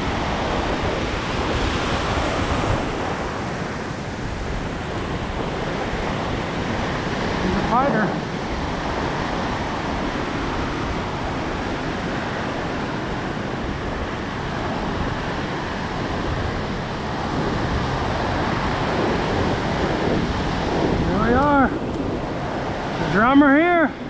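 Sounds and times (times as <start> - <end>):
ocean surf breaking on beach: 0.0 - 24.0
wind on microphone: 0.0 - 24.0.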